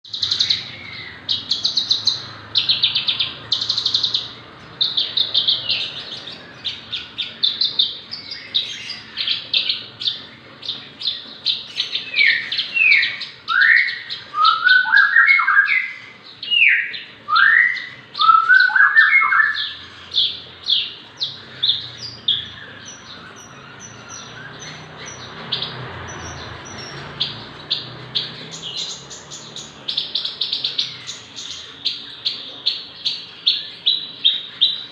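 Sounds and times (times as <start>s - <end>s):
lark singing high trills: 0.1s - 34.9s.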